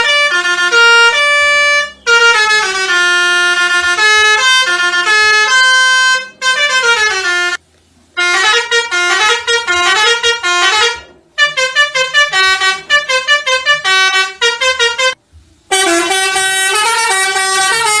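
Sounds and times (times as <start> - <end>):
musical vehicle horn tune: 0.0 - 7.6, 8.2 - 18.0.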